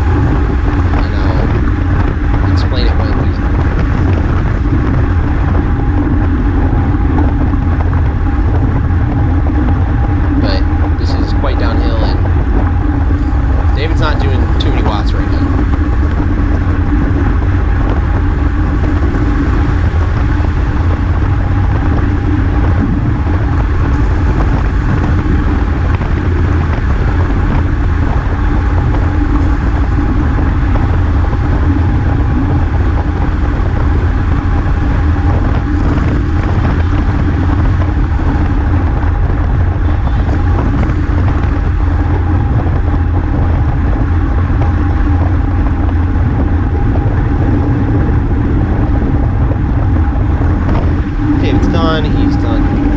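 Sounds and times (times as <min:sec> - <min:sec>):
faint steady hum: 0:00.0 - 0:52.9
wind rushing over microphone: 0:00.0 - 0:52.9.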